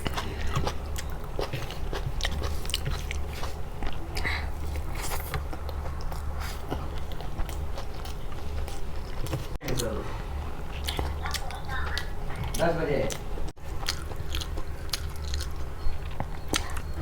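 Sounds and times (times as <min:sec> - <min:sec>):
chewing and biting food: 0:00.0 - 0:17.0
steady low hum: 0:00.0 - 0:17.0.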